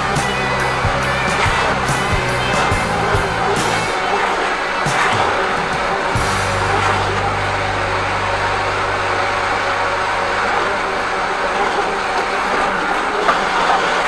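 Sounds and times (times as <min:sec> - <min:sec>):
water jetting in drain: 0:00.0 - 0:07.9, 0:08.7 - 0:14.0
low machine hum: 0:00.0 - 0:14.0.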